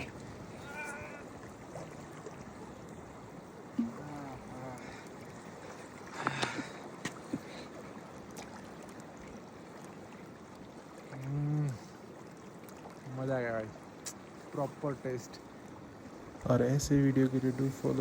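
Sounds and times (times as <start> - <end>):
river water rushing: 0.0 - 16.5.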